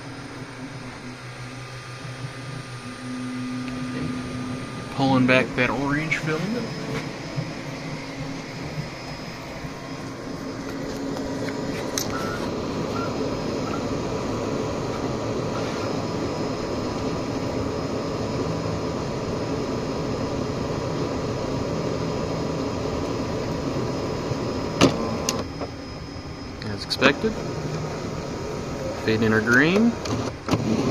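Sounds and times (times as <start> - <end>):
filament feeder motor whirring: 0.0 - 30.9.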